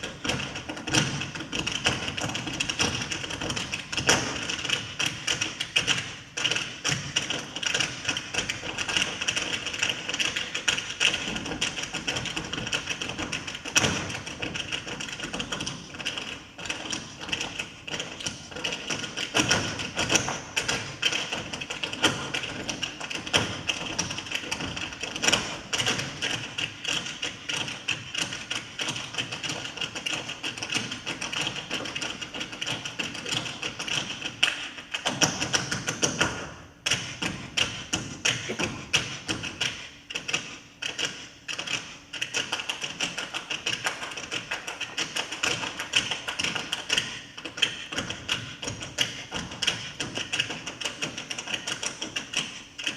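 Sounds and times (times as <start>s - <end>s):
dancers' feet tapping and thudding: 0.0s - 52.9s.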